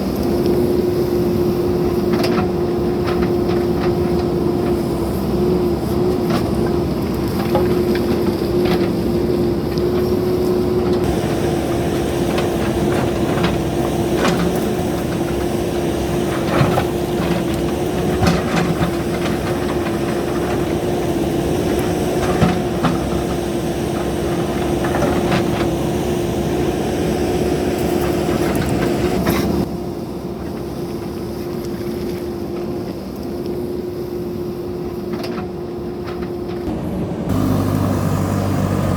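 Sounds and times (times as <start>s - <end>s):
diesel engine running with whine: 0.0s - 38.9s.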